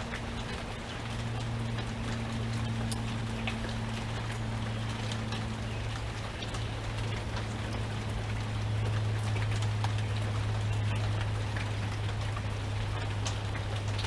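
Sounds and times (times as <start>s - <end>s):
constant low hum: 0.0s - 14.0s
drops ticking on a surface: 0.0s - 14.0s
rain falling: 0.0s - 14.0s.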